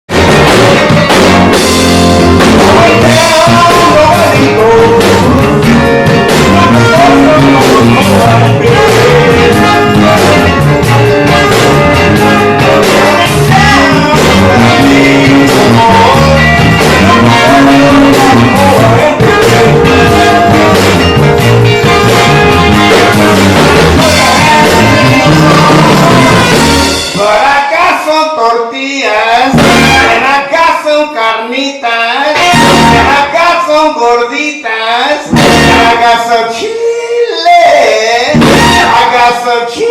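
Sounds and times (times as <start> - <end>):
rock band music: 0.1 - 28.1, 29.5 - 30.6, 32.3 - 33.6, 35.3 - 36.6, 38.3 - 39.9
person singing: 2.4 - 39.9.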